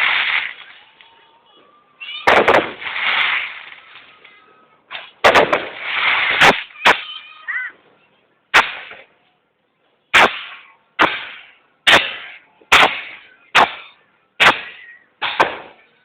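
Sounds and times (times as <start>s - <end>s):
fireworks banging with echo: 0.0s - 1.3s, 2.0s - 7.4s, 8.5s - 9.2s, 10.1s - 16.0s.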